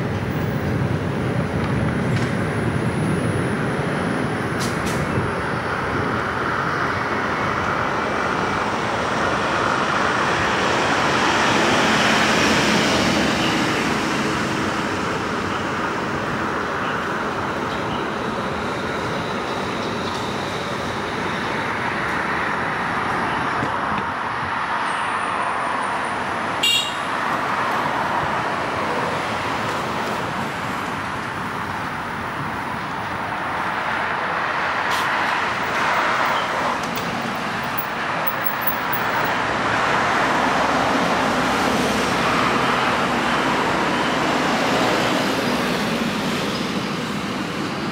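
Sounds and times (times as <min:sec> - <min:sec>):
tyres rushing on road: 0:00.0 - 0:47.9.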